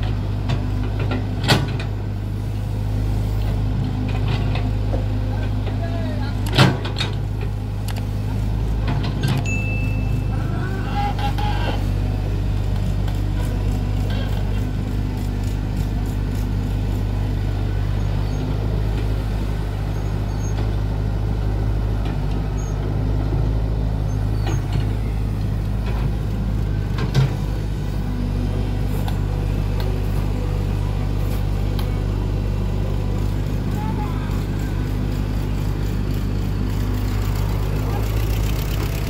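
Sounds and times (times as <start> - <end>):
excavator diesel engine digging: 0.0 - 39.0
tractor engine idling: 0.0 - 39.0.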